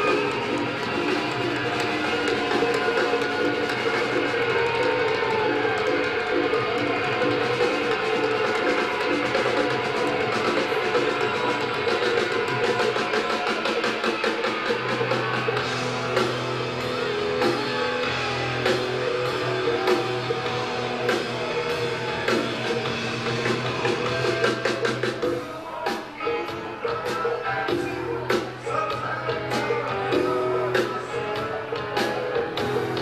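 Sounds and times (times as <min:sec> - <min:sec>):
bass guitar: 0:00.0 - 0:25.5, 0:26.2 - 0:33.0
drum kit: 0:00.0 - 0:33.0
electric guitars: 0:00.0 - 0:33.0.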